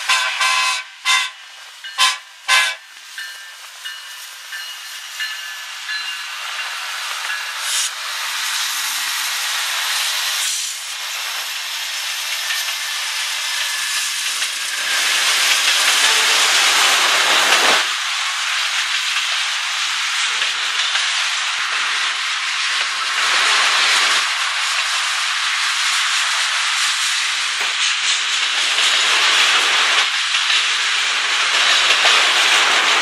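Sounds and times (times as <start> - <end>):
diesel locomotives passing: 0.0 - 33.0
steel wheels hissing on rail: 0.0 - 33.0.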